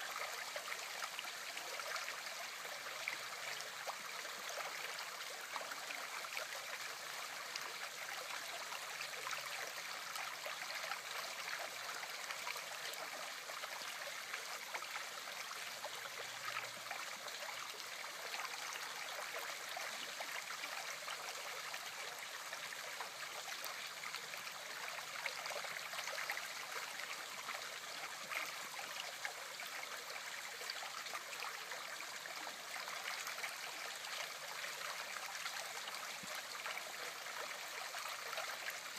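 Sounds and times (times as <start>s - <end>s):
river water rippling and splashing: 0.0s - 38.9s.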